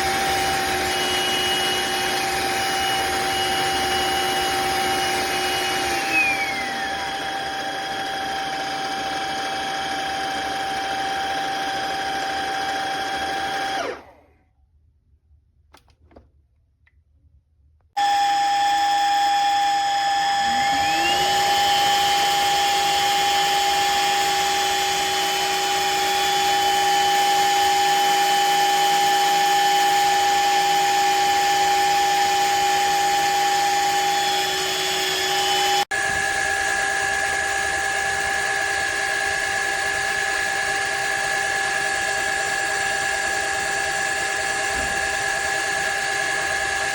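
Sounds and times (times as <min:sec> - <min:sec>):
vacuum mop motor whine: 0:00.0 - 0:14.4, 0:18.0 - 0:46.9.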